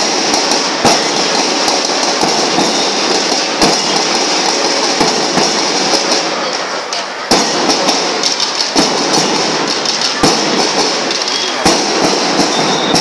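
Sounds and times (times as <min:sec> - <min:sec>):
rapid drum strokes: 0:00.0 - 0:13.0.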